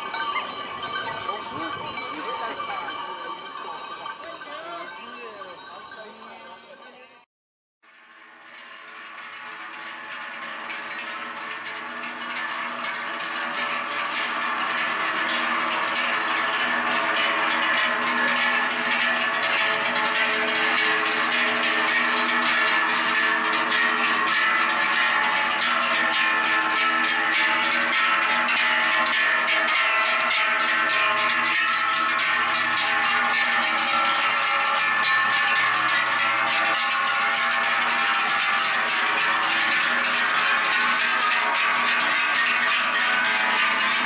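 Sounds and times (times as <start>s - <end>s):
cowbells clanging: 0.0s - 7.3s, 9.0s - 44.0s.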